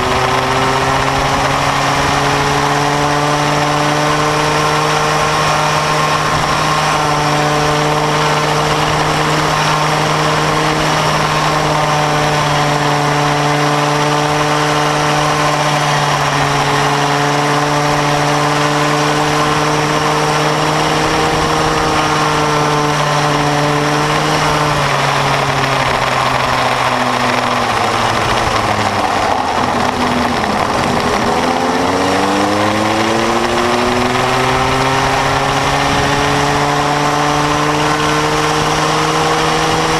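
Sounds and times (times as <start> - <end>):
go-kart engine running hard: 0.0 - 39.9
wind noise: 0.0 - 39.9.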